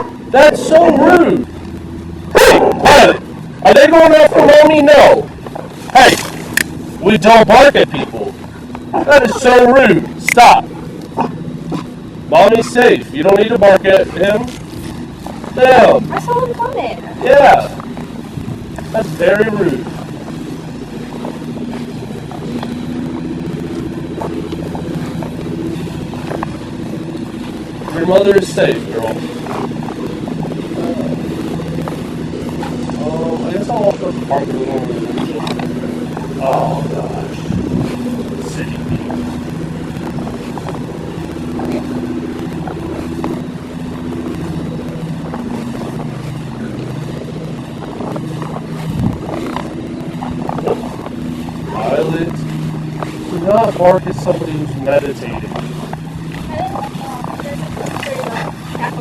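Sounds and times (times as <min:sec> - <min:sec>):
motor engine humming: 0:00.0 - 0:59.0.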